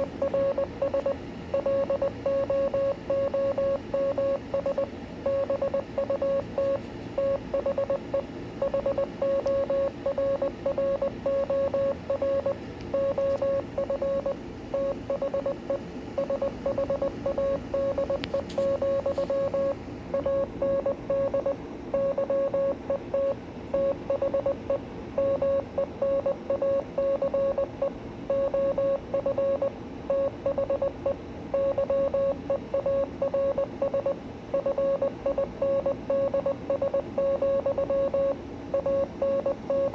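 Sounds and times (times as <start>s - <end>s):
background hiss and hum: 0.0s - 39.9s
morse code beeps: 0.0s - 39.9s.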